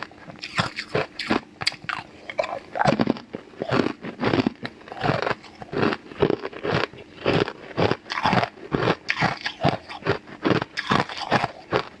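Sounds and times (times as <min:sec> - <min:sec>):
ice cubes crunching: 0:00.4 - 0:12.0.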